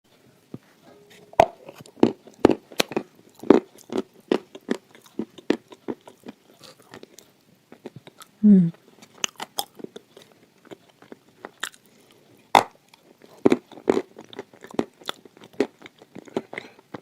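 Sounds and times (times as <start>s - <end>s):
crunchy clay being chewed: 1.5s - 8.3s, 8.9s - 17.0s.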